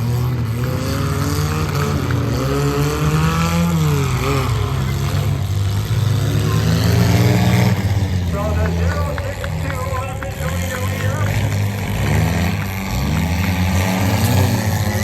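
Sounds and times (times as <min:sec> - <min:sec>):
race truck engines revving: 0:00.0 - 0:15.0.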